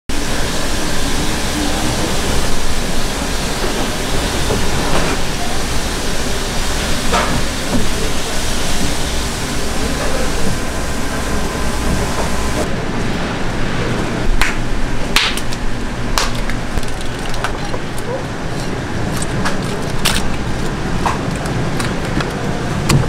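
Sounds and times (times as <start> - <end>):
fish market background rushing: 0.1 - 23.0.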